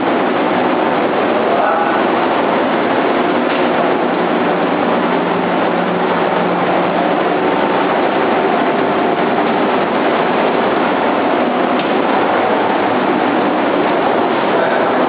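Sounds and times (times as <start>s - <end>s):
faint hum: 0.0s - 15.0s
roasting machine running: 0.0s - 15.0s.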